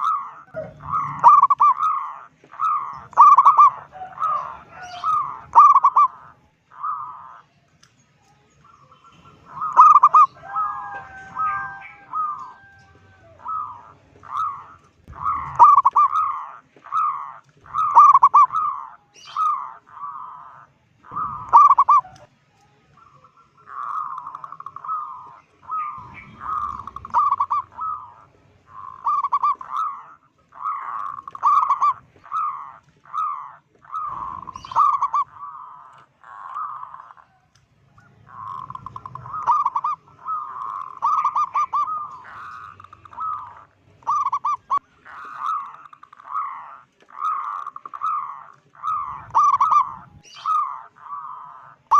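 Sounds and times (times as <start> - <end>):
dove cooing: 0.0 - 7.6, 8.6 - 51.9.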